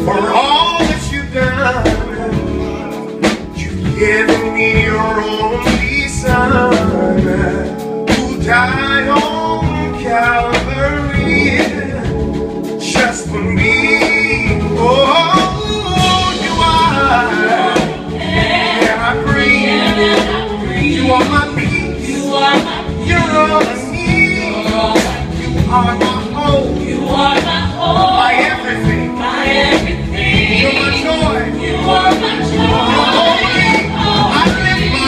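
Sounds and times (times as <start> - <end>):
backing vocal group singing: 0.0 - 35.0
band accompaniment: 0.0 - 35.0
man singing lead: 0.0 - 35.0.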